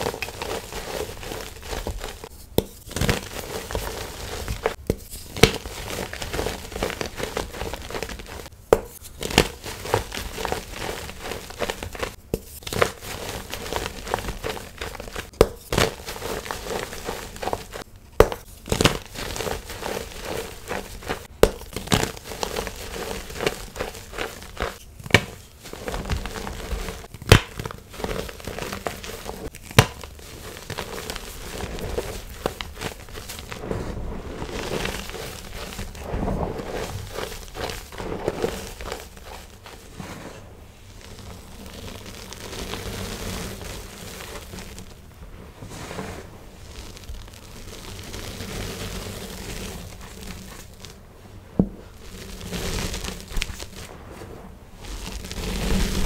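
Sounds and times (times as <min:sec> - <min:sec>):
chalk crunching by hand: 0:00.0 - 0:45.0, 0:51.8 - 0:56.0.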